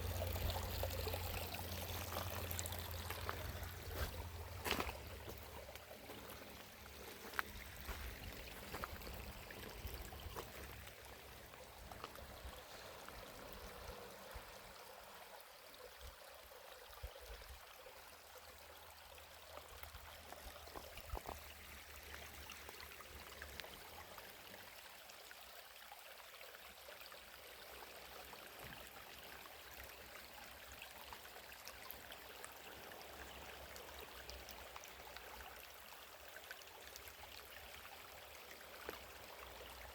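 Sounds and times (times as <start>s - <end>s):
faint running water: 0.0s - 39.9s.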